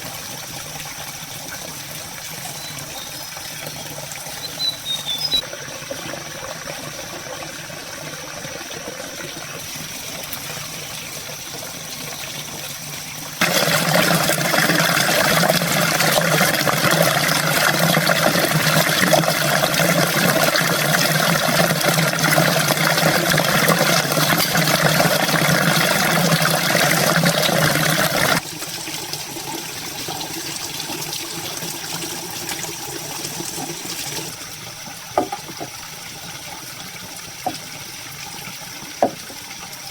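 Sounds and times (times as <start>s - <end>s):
running water splashing: 0.0s - 39.9s.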